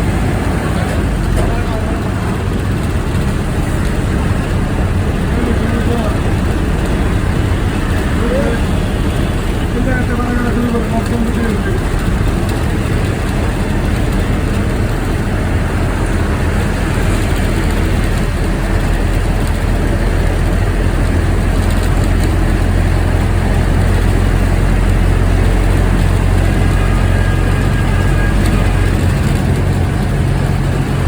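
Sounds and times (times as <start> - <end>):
bus engine humming: 0.0 - 31.0.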